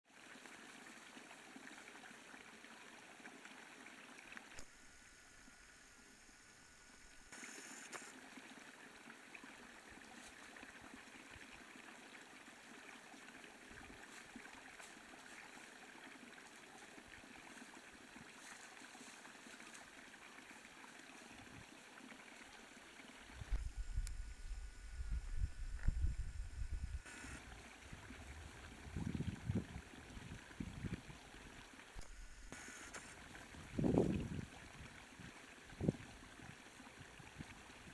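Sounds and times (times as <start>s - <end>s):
creek trickling over rocks: 0.1s - 4.7s, 7.0s - 23.6s, 27.3s - 32.2s, 32.8s - 37.9s.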